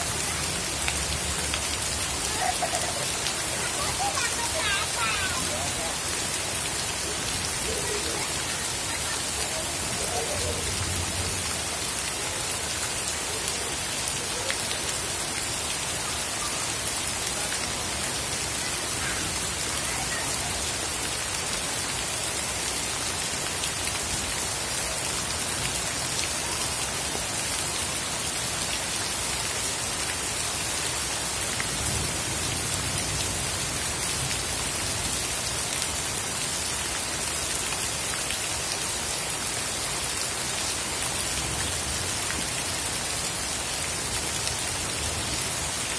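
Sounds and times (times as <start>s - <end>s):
heavy rain on standing water: 0.0s - 45.9s.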